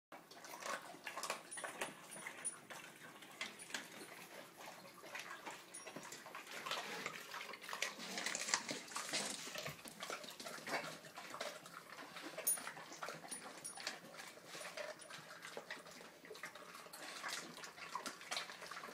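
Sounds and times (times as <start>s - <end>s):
dogs chewing wetly: 0.1s - 18.9s.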